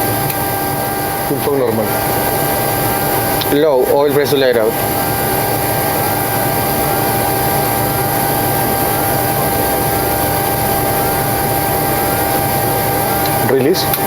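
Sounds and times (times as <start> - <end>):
cockpit air and engine roar: 0.0 - 14.0
turbofan engine whine: 0.0 - 14.0.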